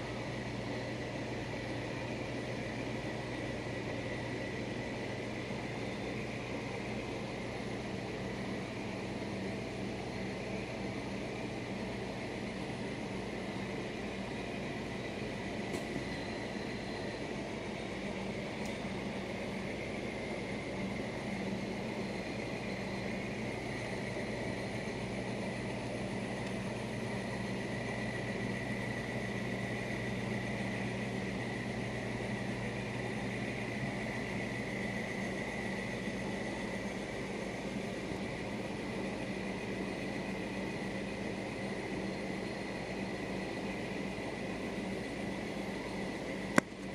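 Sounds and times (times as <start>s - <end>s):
faint high whine: 0.0s - 46.9s
machine hum: 0.0s - 46.9s.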